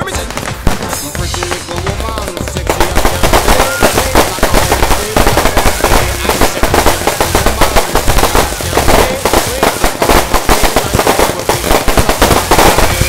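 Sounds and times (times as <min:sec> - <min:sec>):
fireworks popping and crackling: 0:00.0 - 0:13.0.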